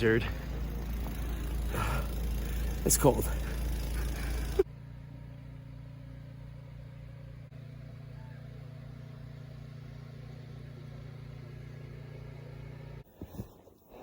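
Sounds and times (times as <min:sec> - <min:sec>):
engine running steadily: 0:00.0 - 0:13.1.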